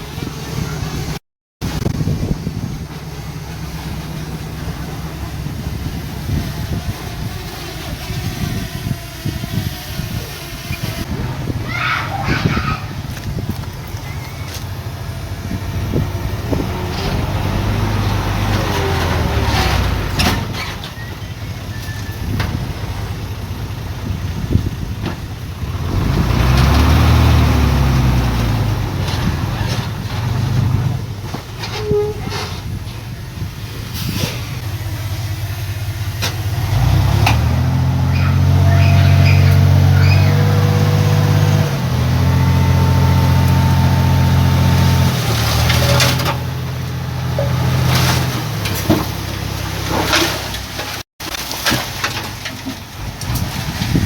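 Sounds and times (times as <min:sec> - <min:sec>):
diesel engines revving: 0:00.0 - 0:54.0.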